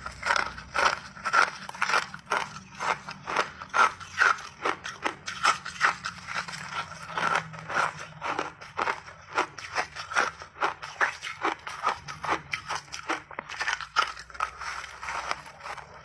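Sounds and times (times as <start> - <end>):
crunching ice between teeth: 0.0 - 16.0.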